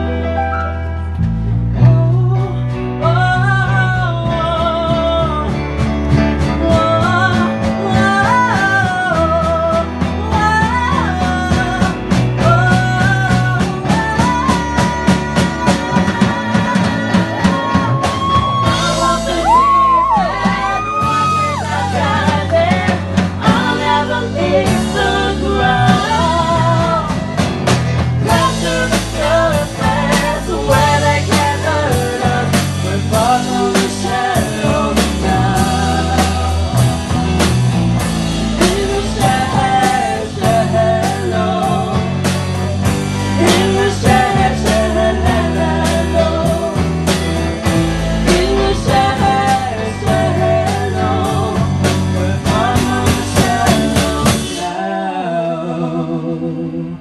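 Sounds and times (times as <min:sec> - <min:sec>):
live rock band: 0:00.0 - 0:57.0
man and woman singing duet: 0:01.8 - 0:37.4, 0:38.0 - 0:57.0
steady drum beat: 0:04.2 - 0:54.8.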